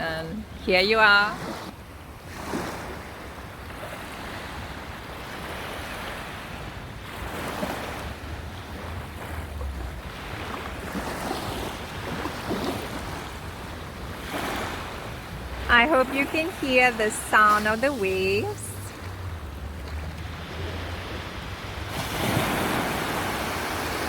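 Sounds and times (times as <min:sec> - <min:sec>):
ocean waves breaking on shore: 0:00.0 - 0:24.0
wind rumbling on microphone: 0:00.0 - 0:24.0.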